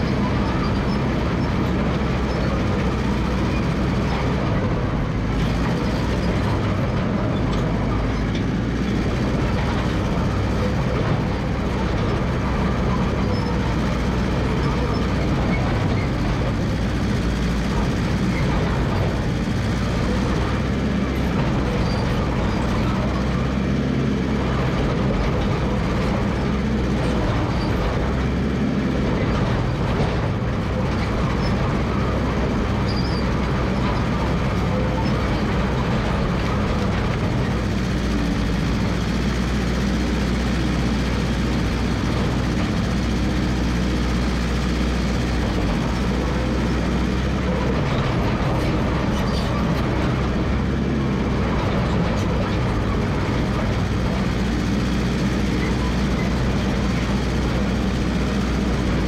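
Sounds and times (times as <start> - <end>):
crawler dozer engine running: 0.0 - 59.0.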